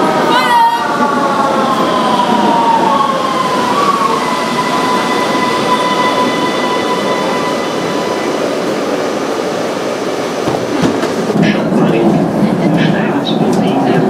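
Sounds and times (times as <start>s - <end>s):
subway train high whine: 0.0s - 14.0s
wheels rumbling on rails: 0.0s - 14.0s.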